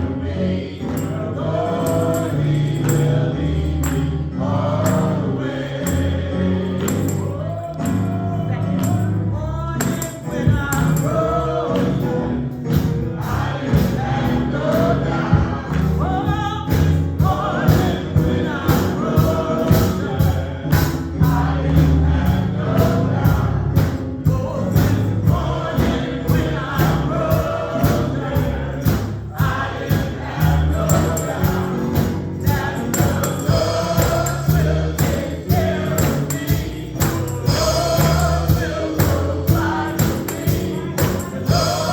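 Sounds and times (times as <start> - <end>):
band playing: 0.0 - 41.9
gospel choir singing: 0.0 - 41.9
sharp percussion hits: 0.8 - 12.0, 12.7 - 41.9
bass line: 1.1 - 41.9.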